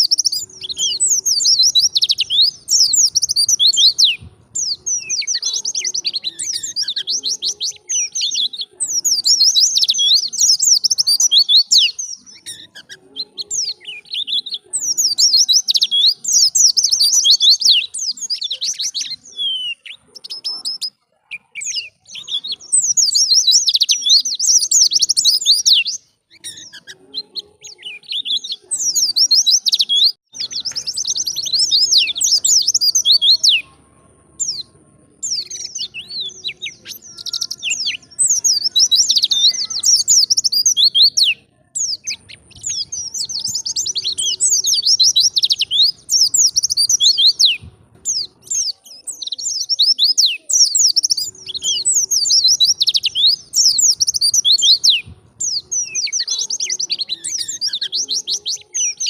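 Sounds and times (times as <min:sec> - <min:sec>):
white-eye twittering song: 0:00.0 - 0:59.0.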